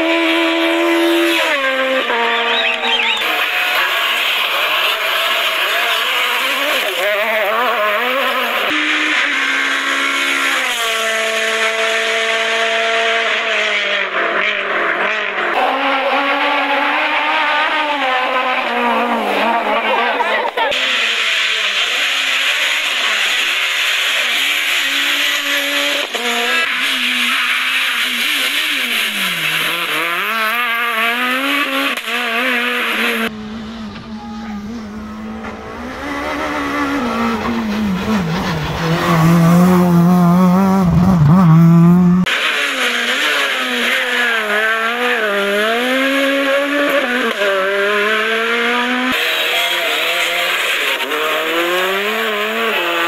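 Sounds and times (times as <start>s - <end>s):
car approaching: 0.0s - 53.0s
rally car engines revving hard: 0.0s - 53.0s.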